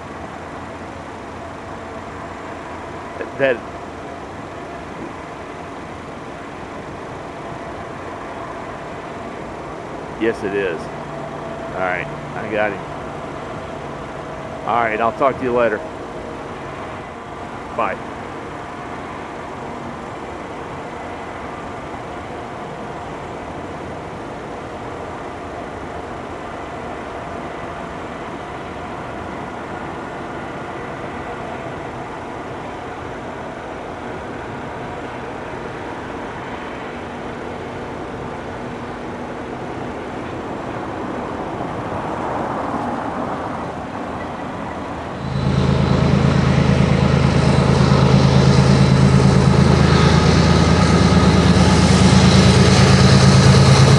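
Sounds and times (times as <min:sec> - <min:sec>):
close diesel locomotive engine hum: 0:00.0 - 0:53.9
distant diesel locomotives rumbling: 0:00.0 - 0:53.9.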